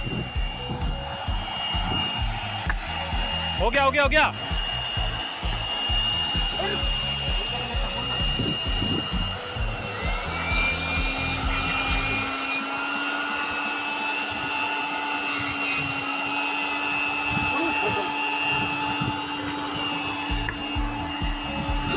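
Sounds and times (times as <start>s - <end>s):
electric air pump whining: 0.0s - 21.9s.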